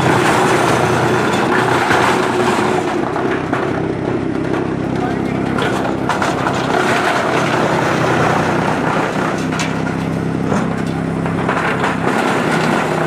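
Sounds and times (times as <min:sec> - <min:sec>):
wood chipper grinding wood: 0:00.0 - 0:13.0
wood cracking: 0:00.2 - 0:13.0.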